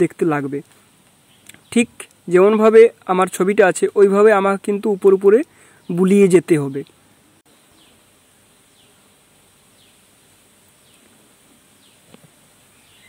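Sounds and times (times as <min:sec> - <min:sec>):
faint bird chirping: 0:00.4 - 0:13.0.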